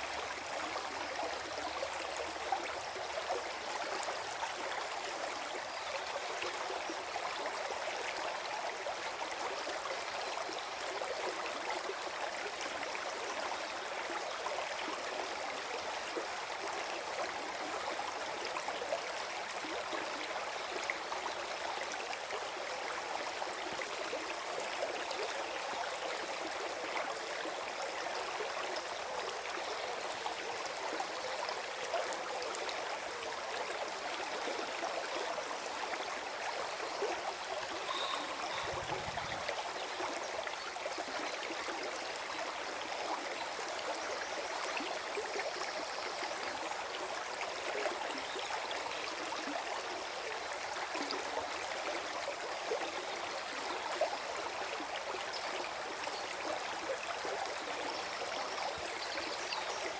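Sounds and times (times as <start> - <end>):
stream gurgling over stones: 0.0 - 59.9.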